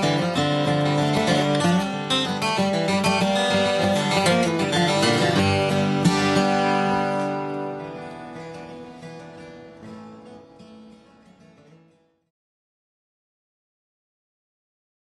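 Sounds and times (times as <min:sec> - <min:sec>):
acoustic guitar music: 0:00.0 - 0:12.3.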